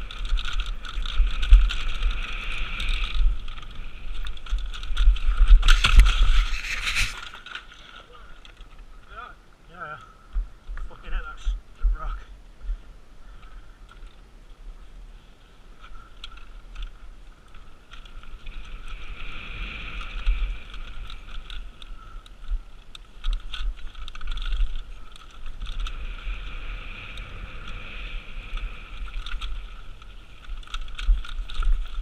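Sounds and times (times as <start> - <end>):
bike rattling and clicking: 0.0 - 9.2, 10.0 - 14.3, 15.8 - 32.0.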